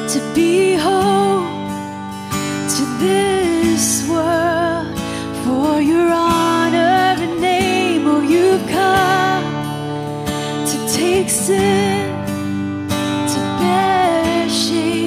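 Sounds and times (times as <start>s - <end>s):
woman singing with vibrato: 0.0s - 1.7s, 2.6s - 9.8s, 10.6s - 12.3s, 13.3s - 15.0s
strummed acoustic guitar: 0.0s - 15.0s.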